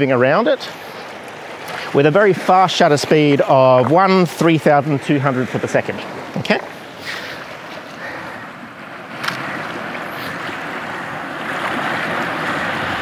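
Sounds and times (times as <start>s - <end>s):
waves washing over rocks: 0.0s - 13.0s.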